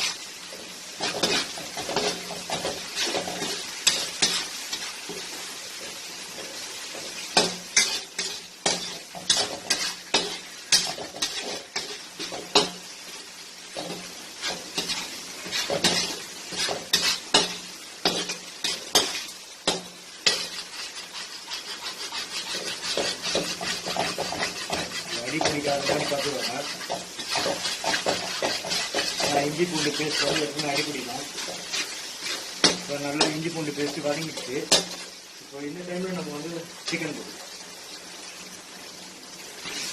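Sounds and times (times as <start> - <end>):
metal spoon scraping a pan: 0.0 - 12.9, 13.6 - 35.2
paste sizzling in a pan: 0.0 - 39.9.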